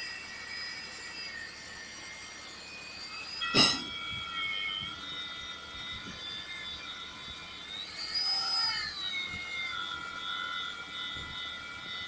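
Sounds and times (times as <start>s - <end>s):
drill motor whining: 0.0s - 12.0s.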